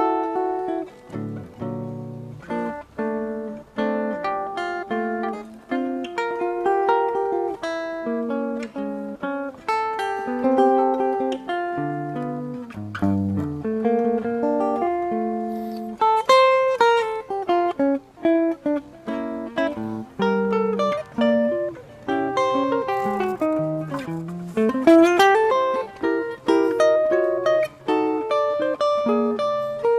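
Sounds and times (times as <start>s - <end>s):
jazz guitar plucked chords: 0.0s - 29.9s.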